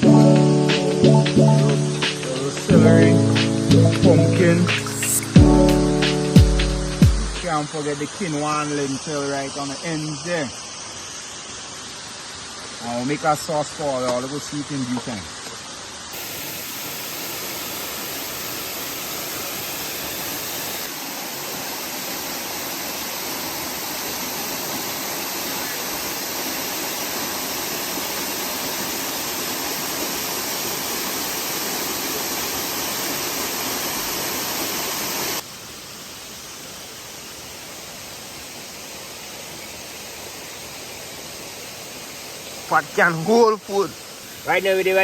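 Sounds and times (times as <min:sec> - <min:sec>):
waterfall rushing: 0:00.0 - 0:14.6, 0:16.1 - 0:45.0.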